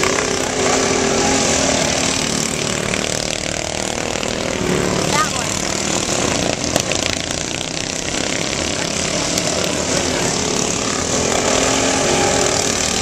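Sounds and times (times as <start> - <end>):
small mower engines droning: 0.0 - 13.0.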